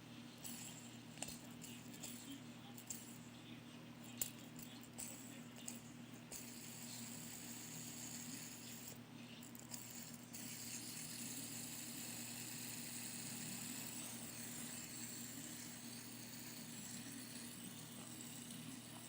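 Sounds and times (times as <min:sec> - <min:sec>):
electrical hum and hiss: 0:00.0 - 0:19.0.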